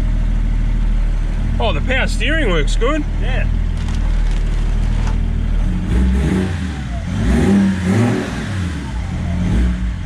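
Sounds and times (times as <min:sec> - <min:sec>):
diesel engine revving: 0:00.7 - 0:10.0.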